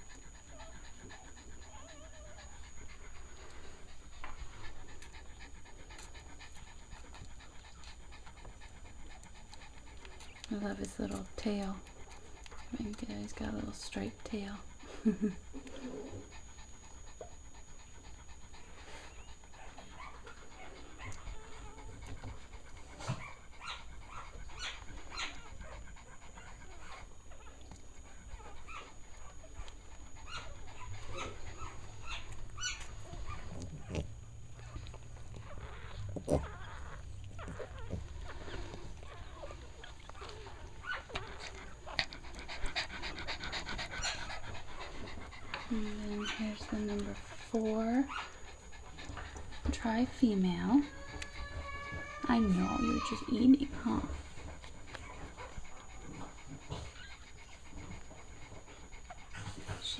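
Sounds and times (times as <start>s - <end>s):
dog panting: 0.0s - 59.9s.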